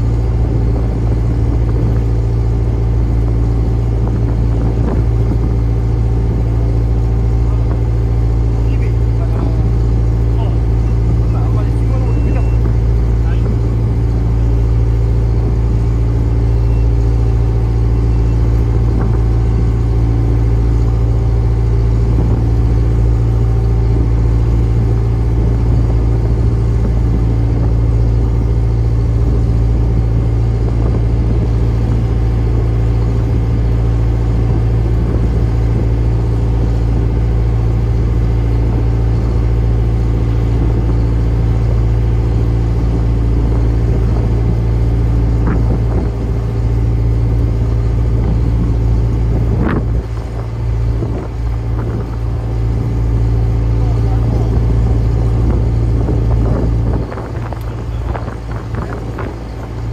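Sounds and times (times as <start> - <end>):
boat engine rumble: 0.0 - 59.9.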